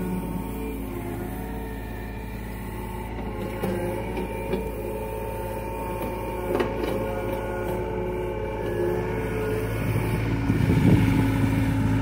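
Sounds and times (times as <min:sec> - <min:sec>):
excavator diesel engine running: 0:00.0 - 0:12.0
hydraulic whine: 0:00.0 - 0:12.0.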